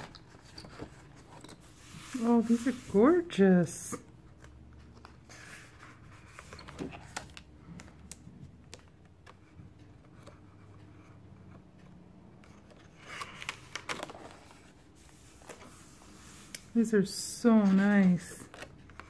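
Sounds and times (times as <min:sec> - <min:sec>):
calendar pages rustling: 0:00.0 - 0:11.4, 0:12.4 - 0:19.0.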